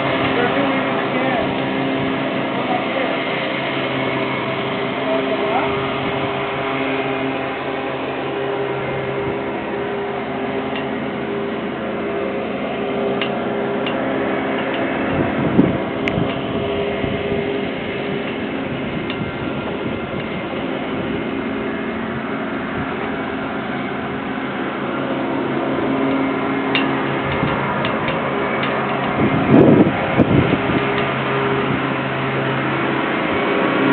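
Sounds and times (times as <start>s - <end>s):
machinery humming: 0.0s - 33.9s.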